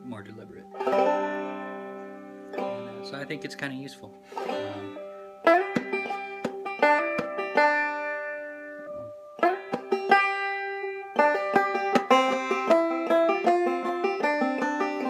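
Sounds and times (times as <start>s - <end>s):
banjo picking: 0.0s - 15.0s.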